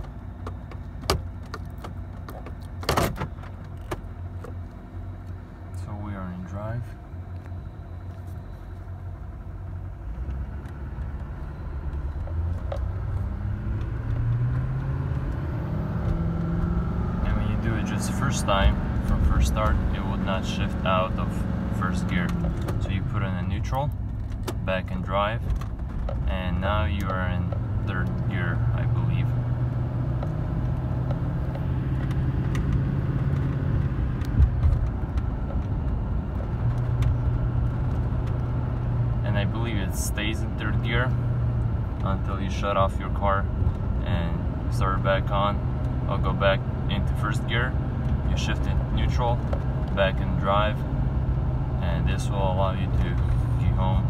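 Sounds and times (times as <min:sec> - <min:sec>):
diesel truck engine revving: 0:00.0 - 0:54.0
road rumble: 0:00.0 - 0:54.0.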